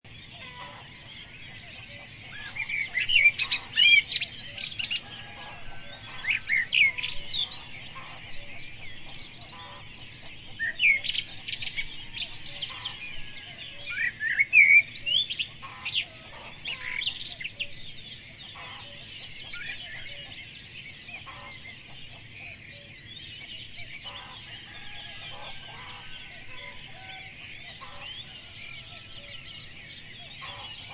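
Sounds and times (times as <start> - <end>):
background chatter of birds: 0.1 - 30.9
birds chirping in high notes: 0.1 - 30.9.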